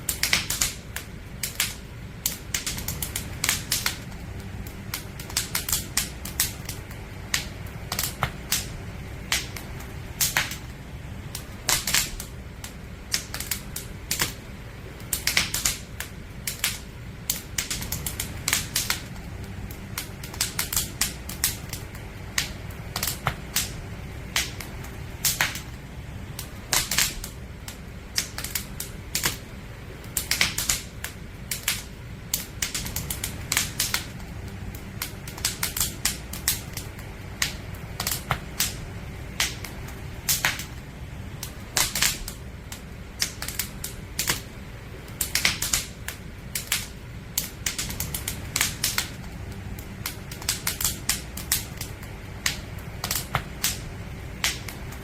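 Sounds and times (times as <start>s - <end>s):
campfire crackling and popping: 0.0s - 55.0s
low steady rumble: 0.0s - 55.0s.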